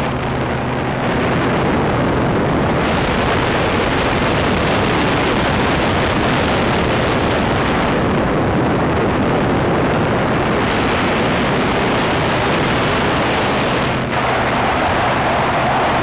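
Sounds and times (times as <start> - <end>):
engine and propeller running: 0.0 - 16.0
wind rushing on microphone: 0.0 - 16.0.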